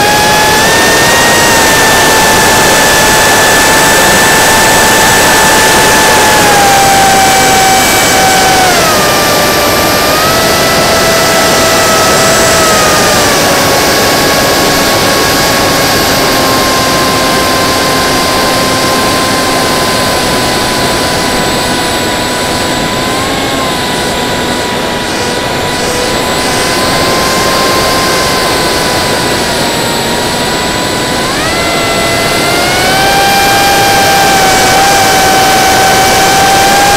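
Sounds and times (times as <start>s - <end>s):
electric motor and propeller whining: 0.0s - 36.9s
wind rushing over microphone: 0.0s - 36.9s.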